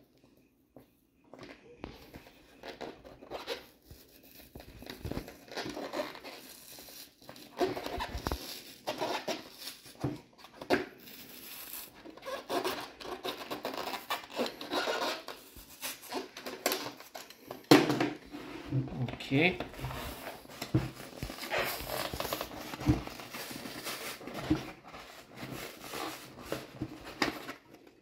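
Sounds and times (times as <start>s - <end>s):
cone material scraping and ripping: 2.6s - 17.5s, 18.3s - 28.0s.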